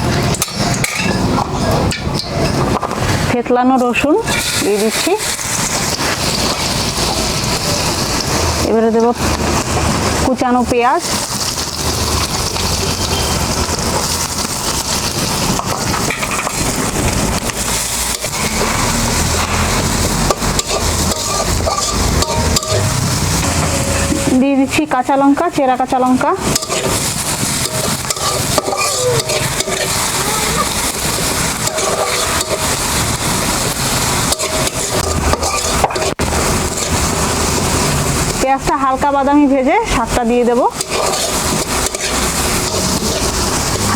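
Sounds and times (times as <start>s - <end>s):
spatula scraping pan: 0.0s - 24.5s, 25.8s - 38.3s, 39.7s - 43.9s
onion sizzling in hot oil: 0.0s - 43.9s.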